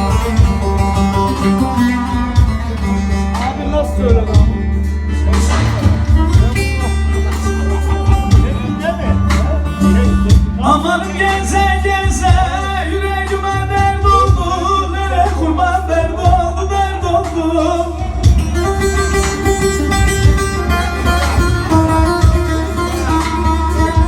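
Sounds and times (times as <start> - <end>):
saz plucked folk tune: 0.0 - 24.0.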